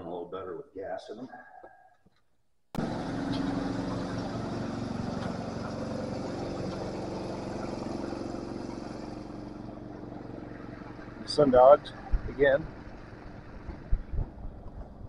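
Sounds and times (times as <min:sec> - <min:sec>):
tractor engine running: 0:02.8 - 0:15.0.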